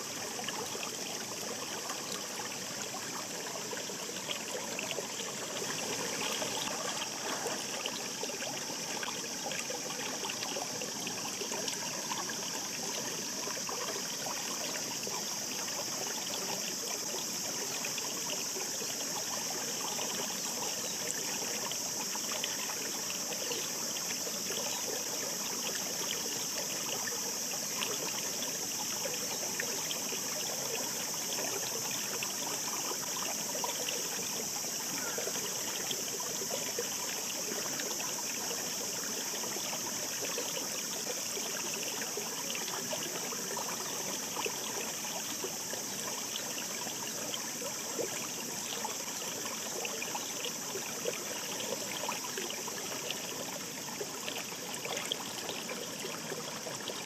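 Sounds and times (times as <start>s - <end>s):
brook babbling: 0.0s - 57.0s.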